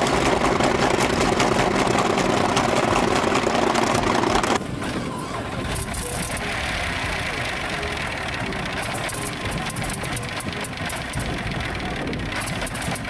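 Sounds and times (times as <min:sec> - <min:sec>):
quieter engine running: 0:00.0 - 0:04.8, 0:06.0 - 0:13.0
large engine clattering loudly: 0:00.0 - 0:04.9, 0:05.6 - 0:13.0.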